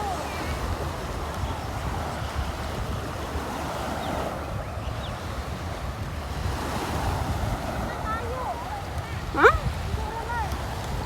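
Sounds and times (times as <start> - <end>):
water rushing: 0.0 - 11.0
wind buffeting microphone: 0.0 - 11.0.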